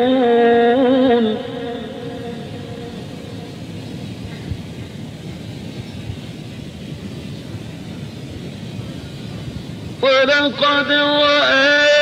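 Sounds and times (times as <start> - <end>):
recording background rumble and hiss: 0.0 - 12.0.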